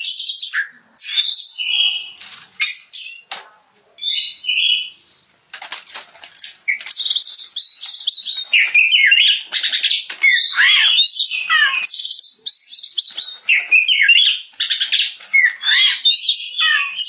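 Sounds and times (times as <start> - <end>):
bird singing: 0.0 - 3.3, 4.0 - 5.3, 6.4 - 17.0.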